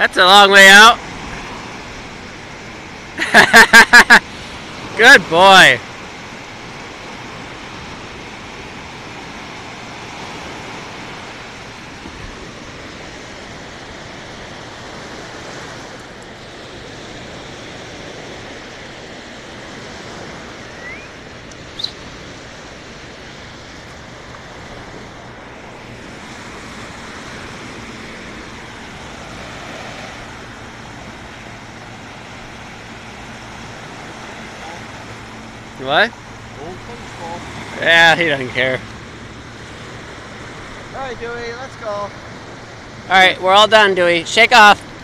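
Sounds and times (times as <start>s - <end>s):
waves breaking on sandy shore: 0.0s - 45.0s.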